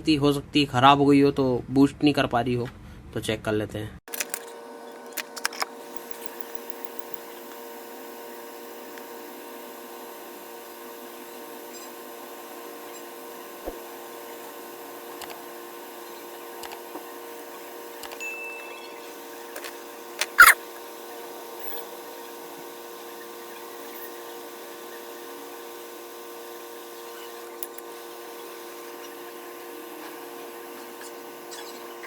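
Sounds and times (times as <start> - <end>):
electrical hum: 4.1 - 32.0.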